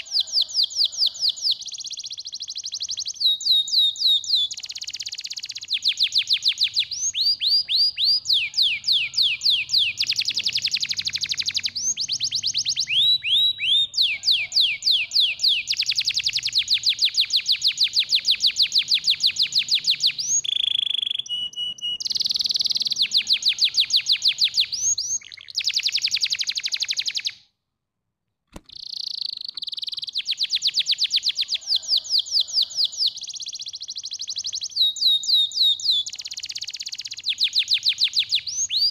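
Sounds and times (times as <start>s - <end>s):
canary singing trills: 0.0s - 27.4s, 28.7s - 38.9s.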